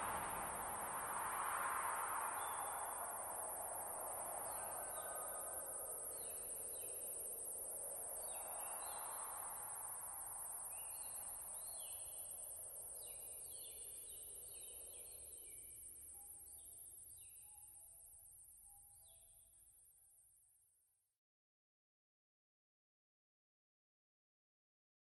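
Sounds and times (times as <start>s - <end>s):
high insect trill: 0.0s - 20.3s.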